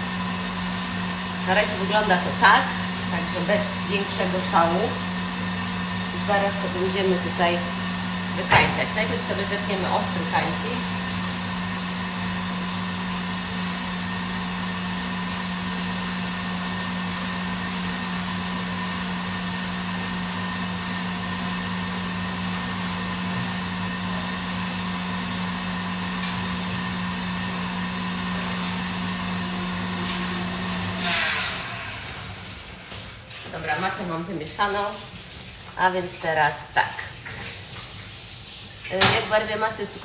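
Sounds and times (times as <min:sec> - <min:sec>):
electric mixer humming: 0:00.0 - 0:34.8.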